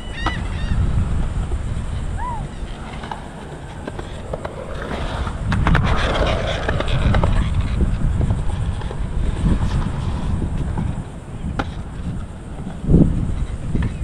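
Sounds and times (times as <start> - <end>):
skateboard wheels rolling on concrete: 0.0 - 14.0
skateboard clacks: 1.2 - 14.0.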